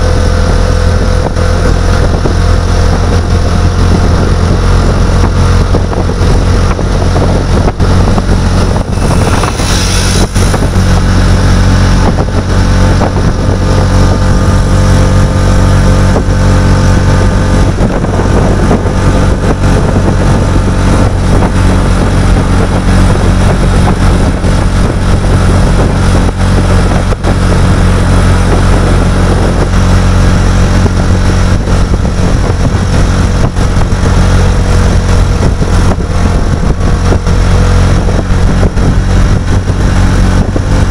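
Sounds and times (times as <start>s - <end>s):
vehicle engine droning: 0.0s - 40.9s.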